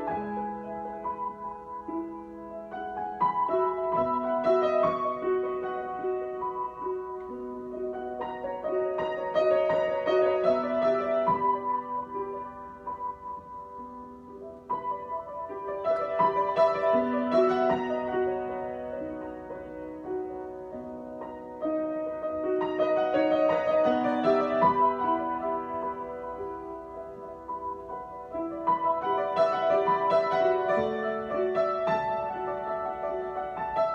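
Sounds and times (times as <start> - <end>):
solo piano improvisation: 0.0 - 33.9.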